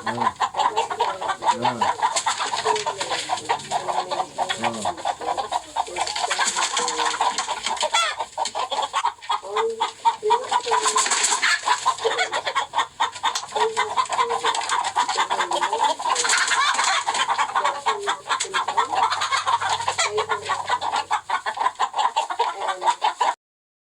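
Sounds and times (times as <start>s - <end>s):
chickens clucking: 0.0s - 23.4s.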